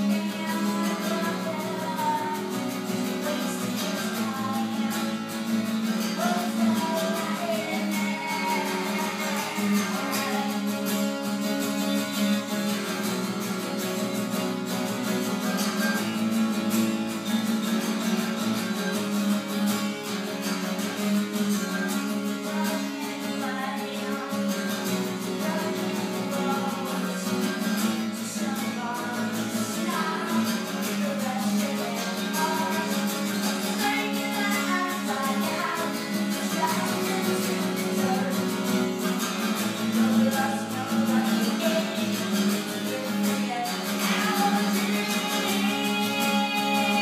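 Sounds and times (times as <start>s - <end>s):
acoustic guitar playing: 0.0s - 47.0s
woman singing: 0.0s - 47.0s.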